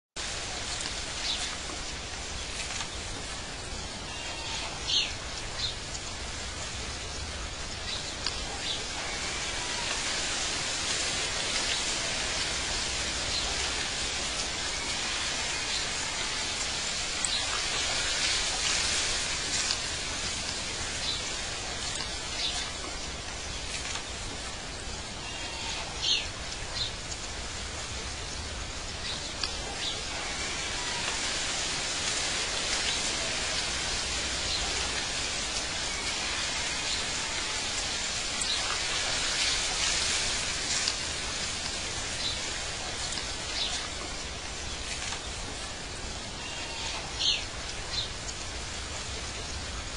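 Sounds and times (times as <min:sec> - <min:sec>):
steady high hiss: 0:00.2 - 0:49.9.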